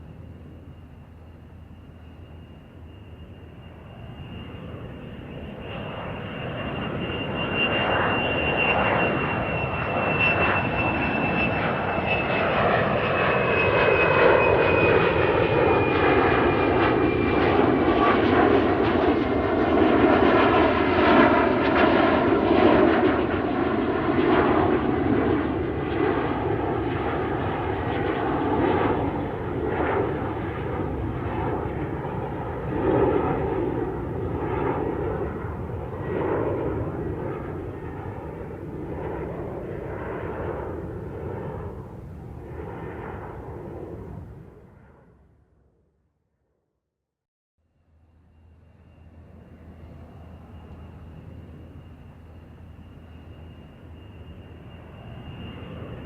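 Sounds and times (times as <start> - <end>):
aeroplane engine noise: 0.0 - 46.6, 47.6 - 56.0.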